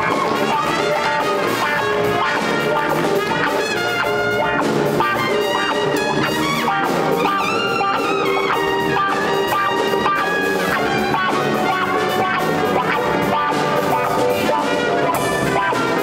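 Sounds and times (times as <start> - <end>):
jazz-funk band playing: 0.0 - 16.0
trumpet melody: 0.0 - 16.0.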